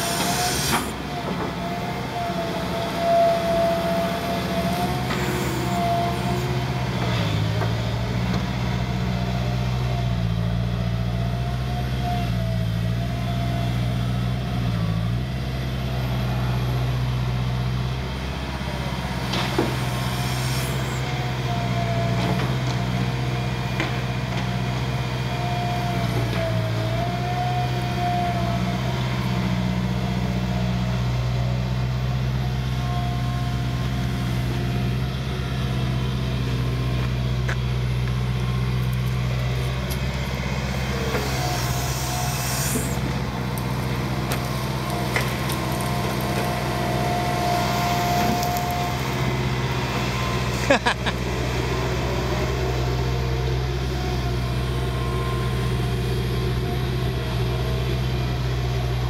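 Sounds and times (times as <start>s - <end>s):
excavator diesel engine running: 0.0s - 59.0s
hydraulic pump whine: 0.0s - 59.0s.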